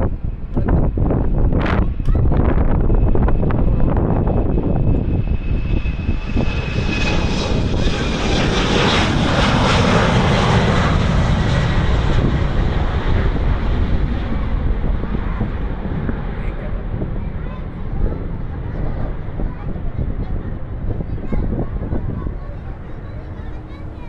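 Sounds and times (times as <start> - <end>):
jet engines roaring and whining: 0.0 - 24.0
wind buffeting microphone: 0.0 - 24.0.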